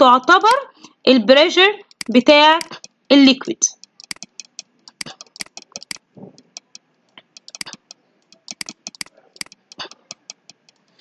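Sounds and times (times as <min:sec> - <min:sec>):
pen clicks and taps on tablet: 0:00.2 - 0:00.6, 0:01.8 - 0:11.0.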